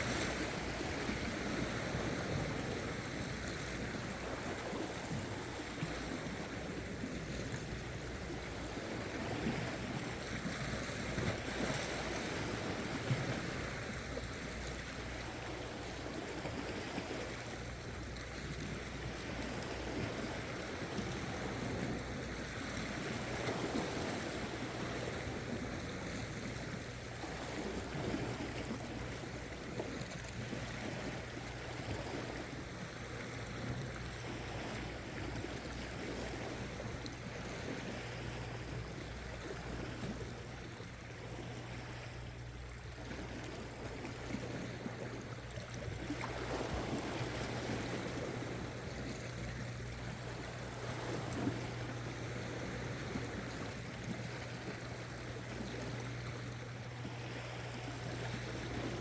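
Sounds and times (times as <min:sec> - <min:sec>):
sea water lapping against rocks: 0:00.0 - 0:59.0.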